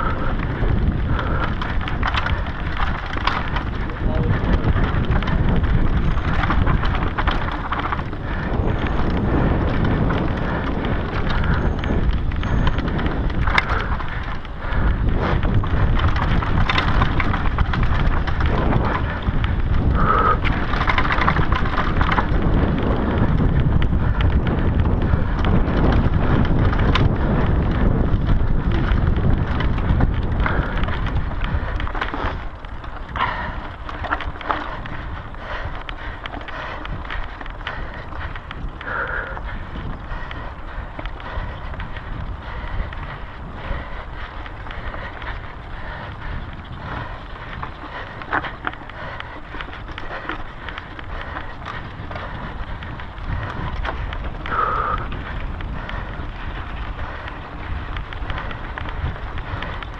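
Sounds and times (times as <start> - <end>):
bike rattling over bumps: 0.0 - 59.9
wind and tyre noise: 0.0 - 59.9.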